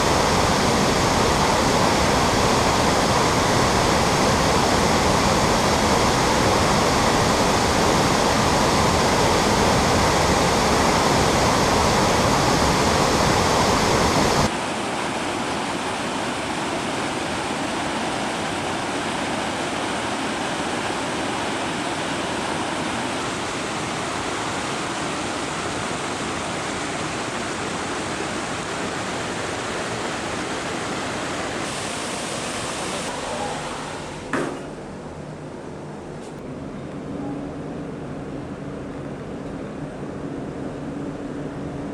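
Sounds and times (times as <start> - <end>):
waterfall roaring: 0.0 - 34.7.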